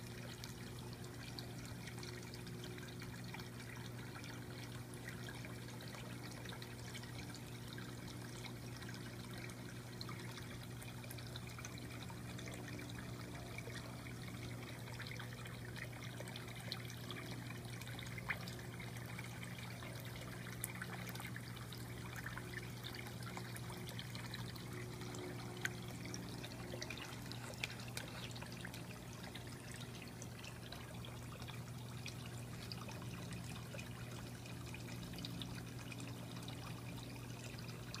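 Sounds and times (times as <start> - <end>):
fountain water trickling: 0.0 - 38.0
low steady hum: 0.0 - 38.0.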